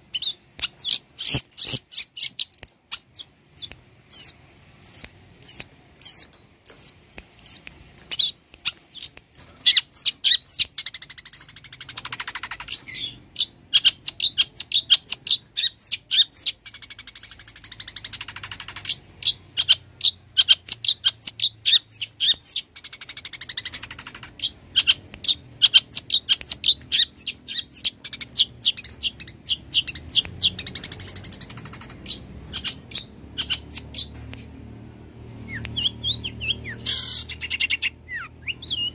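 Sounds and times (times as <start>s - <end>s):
bird chirping rapidly: 0.1s - 34.6s, 35.4s - 38.9s.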